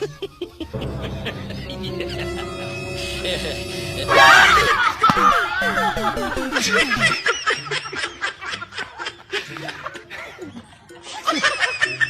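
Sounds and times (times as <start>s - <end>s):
faint background music: 0.0s - 12.0s
snickering laughter: 0.0s - 12.0s.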